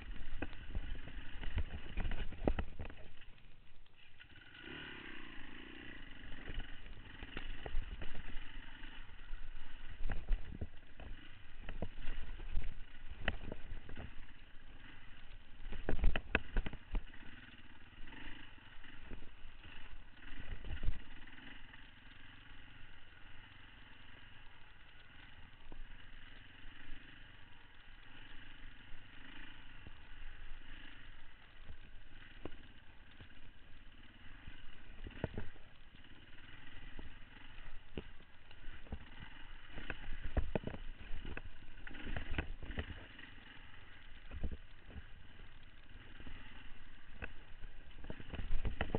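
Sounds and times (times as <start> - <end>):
motorbike engine running: 0.0 - 48.9.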